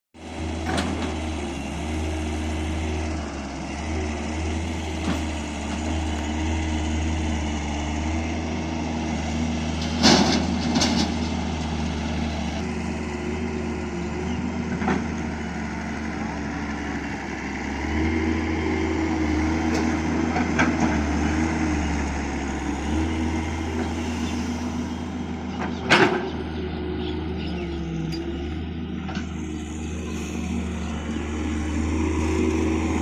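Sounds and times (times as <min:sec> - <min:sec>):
excavator and tractor engines: 0:00.2 - 0:33.0.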